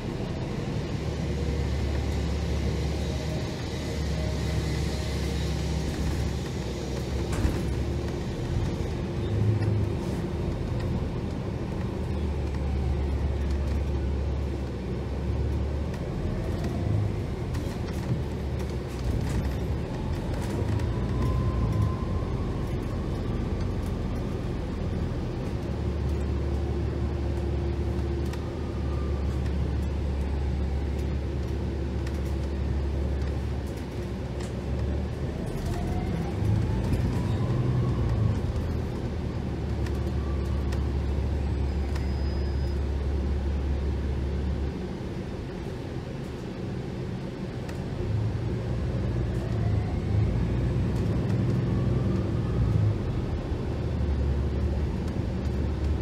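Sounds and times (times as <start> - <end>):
bus diesel engine rumble: 0.0 - 56.0.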